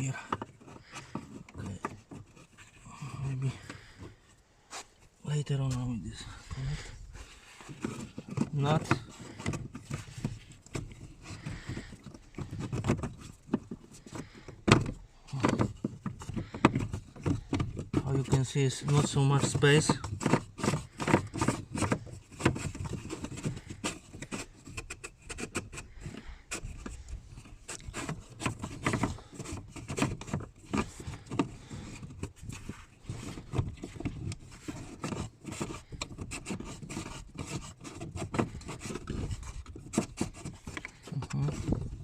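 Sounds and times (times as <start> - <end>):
rubbing and scraping: 0.0 - 42.0.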